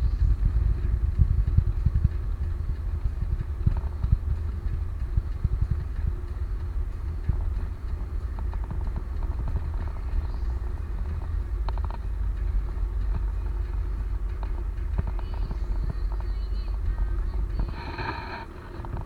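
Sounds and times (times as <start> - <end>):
light rattles and clicks: 0.0 - 19.0
vehicle road rumble: 0.0 - 19.0.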